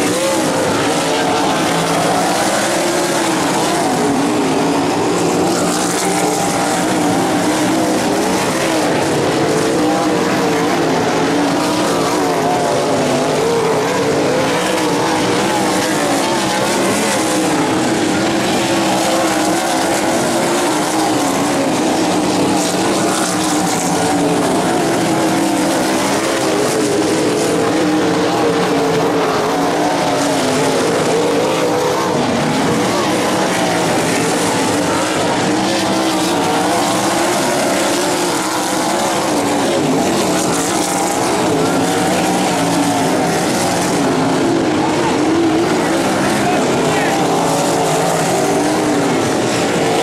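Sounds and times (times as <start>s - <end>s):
racing engines: 0.0s - 50.0s.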